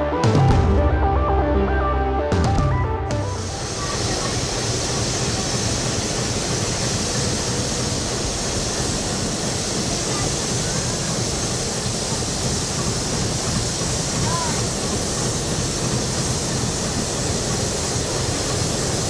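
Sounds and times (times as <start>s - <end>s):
railway station rushing noise: 0.0s - 19.0s.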